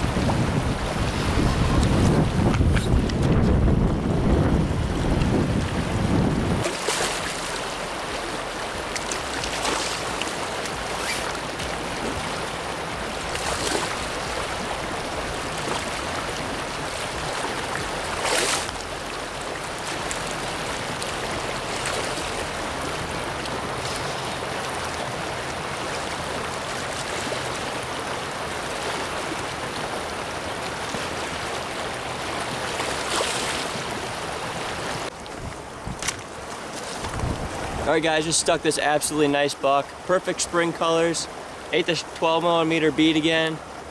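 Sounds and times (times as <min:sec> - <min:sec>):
river water over gravel: 0:00.0 - 0:43.9.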